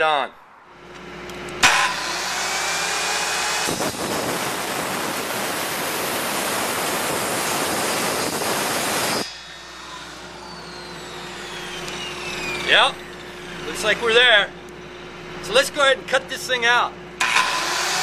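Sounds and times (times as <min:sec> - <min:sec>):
saw motor whining down: 0:00.9 - 0:16.0, 0:17.2 - 0:18.0
circular saw cutting wood: 0:01.6 - 0:16.0, 0:17.2 - 0:18.0.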